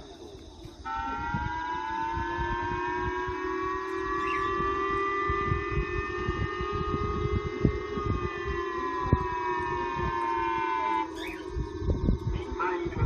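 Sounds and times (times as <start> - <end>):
low rumbling: 0.0 - 13.0
warning siren over loudspeakers: 0.6 - 13.0.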